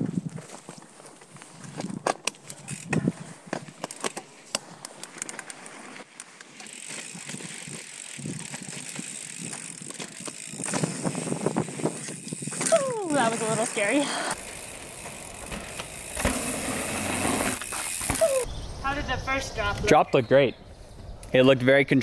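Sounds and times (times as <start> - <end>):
bike rattling over bumps: 0.0 - 18.5
bike tyres on dirt and stone: 0.0 - 19.7.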